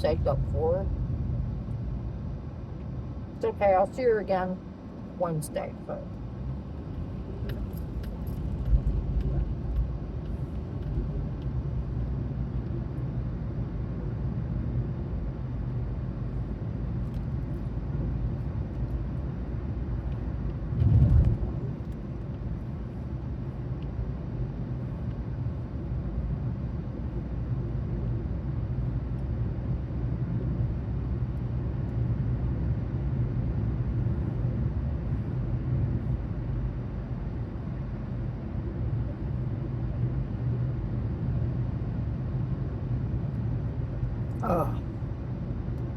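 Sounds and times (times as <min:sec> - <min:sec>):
car cabin rumble: 0:00.0 - 0:04.6, 0:05.2 - 0:13.4, 0:16.3 - 0:42.0, 0:42.7 - 0:45.9.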